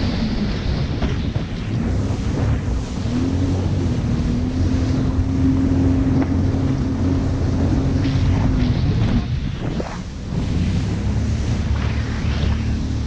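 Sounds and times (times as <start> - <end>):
jet ski engine running: 0.0 - 13.0
wind buffeting microphone: 0.0 - 13.0.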